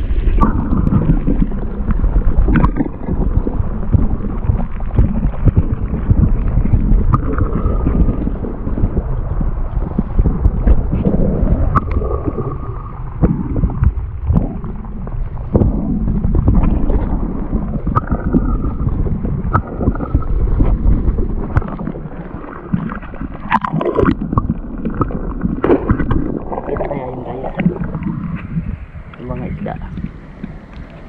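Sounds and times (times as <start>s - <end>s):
muffled underwater rumble: 0.0s - 31.0s
sharp underwater clicks: 0.0s - 31.0s.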